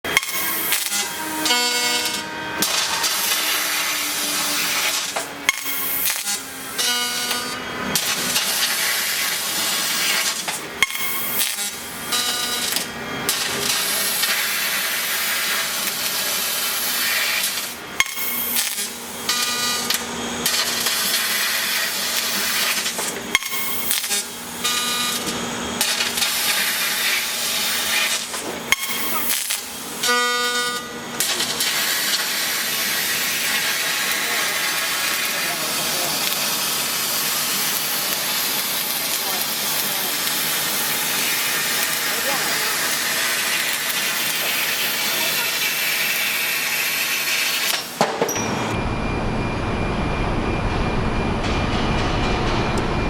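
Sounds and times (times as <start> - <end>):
laser cutting steel hiss: 0.1 - 48.0.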